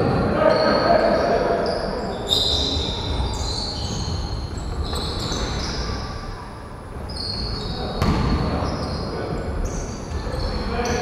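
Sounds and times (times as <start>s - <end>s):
sneaker squeaks on wooden floor: 0.0s - 6.3s, 6.9s - 11.0s.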